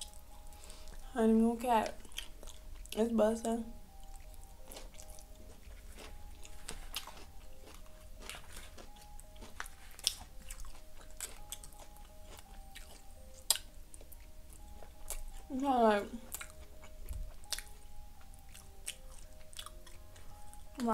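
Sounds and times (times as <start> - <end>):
person chewing with wet mouth sounds: 1.8 - 3.0, 3.9 - 20.9.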